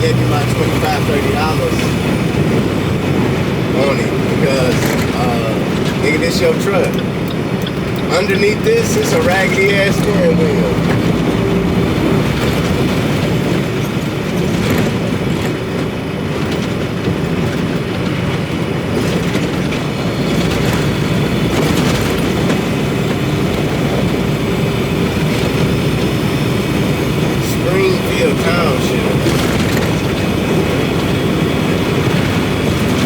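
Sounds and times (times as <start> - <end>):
truck engine and tyres droning: 0.0 - 33.0.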